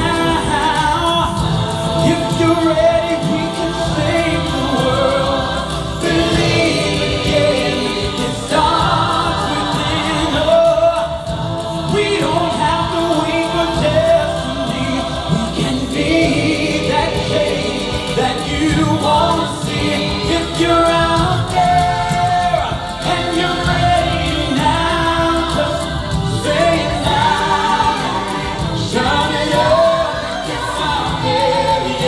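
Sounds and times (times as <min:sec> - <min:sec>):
instrumental backing: 0:00.0 - 0:32.0
vocal group singing in harmony: 0:00.0 - 0:32.0.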